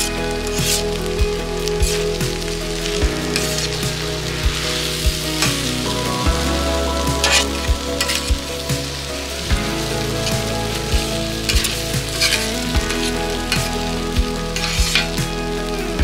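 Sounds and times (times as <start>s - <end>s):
noodles sizzling on a griddle: 0.0s - 16.0s.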